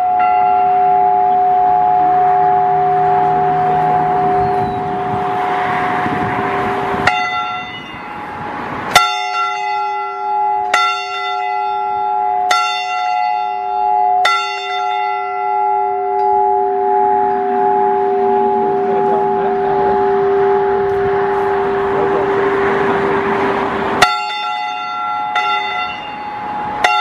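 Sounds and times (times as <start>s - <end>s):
church bell tolling: 0.0s - 27.0s.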